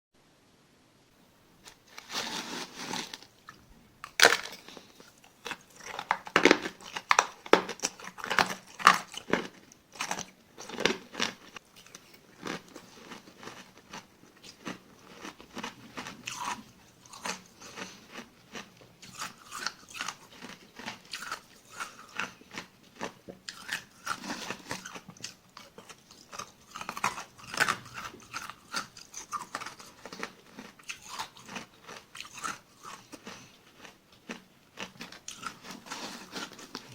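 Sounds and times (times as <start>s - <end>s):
chewing crunchy ice: 2.0s - 36.9s.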